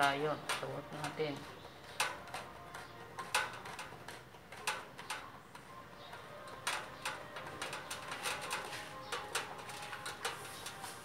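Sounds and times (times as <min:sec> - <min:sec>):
drain fitting clicking: 0:00.0 - 0:10.8.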